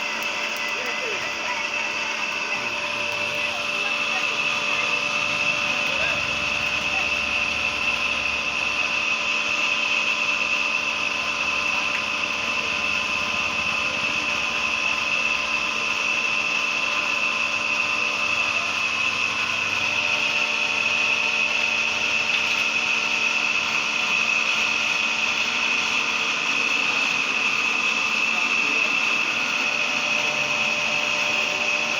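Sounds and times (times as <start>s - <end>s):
machine motor whining: 0.0s - 31.9s.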